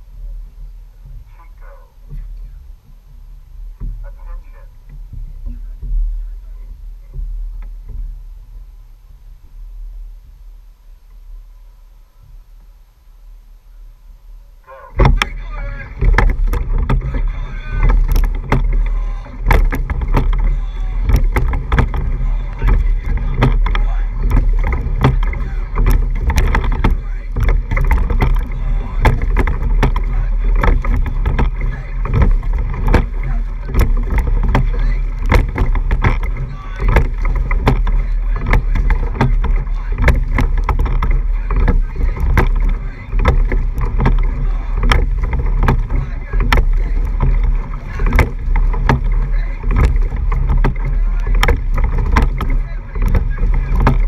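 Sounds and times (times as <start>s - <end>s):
low rumble: 0.0s - 54.0s
oars knocking and splashing: 0.0s - 54.0s
water rushing along hull: 0.0s - 54.0s.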